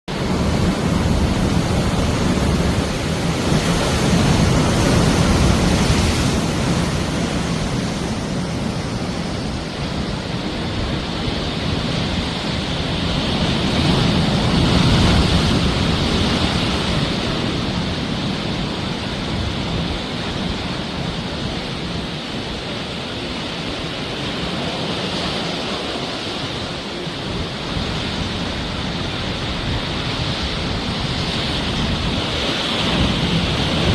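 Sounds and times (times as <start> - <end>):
sea waves breaking on shore: 0.1 - 33.9.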